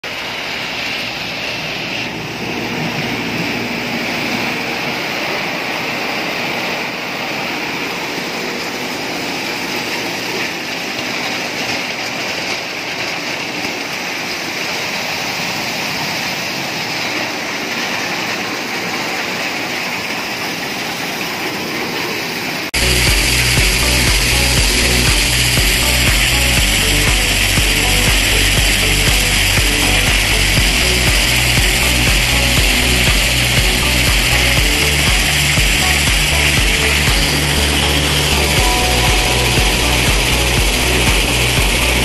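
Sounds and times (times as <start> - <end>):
thresher machine running: 0.0 - 42.0.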